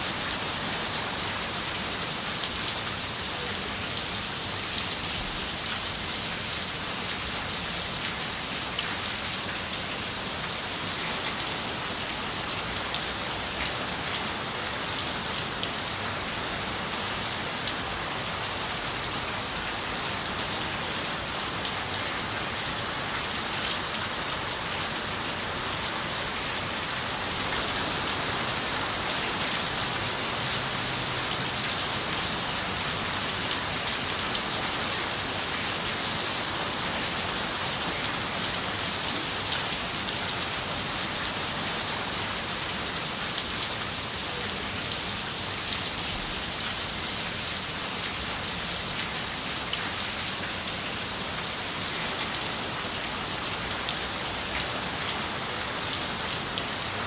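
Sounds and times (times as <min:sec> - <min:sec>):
rain on a window: 0:00.1 - 0:57.0.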